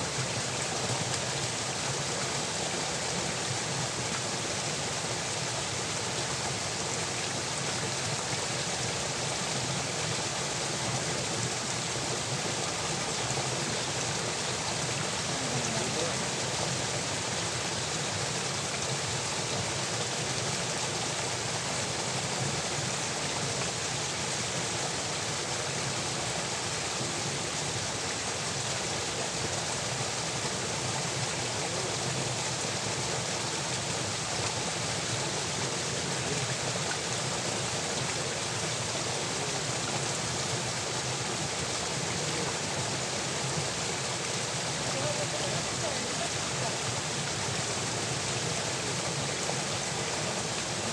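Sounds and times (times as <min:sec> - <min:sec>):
water rushing in a channel: 0:00.0 - 0:50.9.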